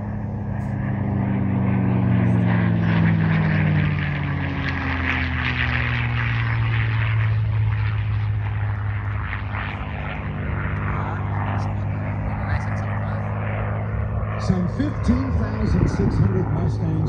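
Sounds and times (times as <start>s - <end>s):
propeller plane flyby: 0.0s - 17.0s.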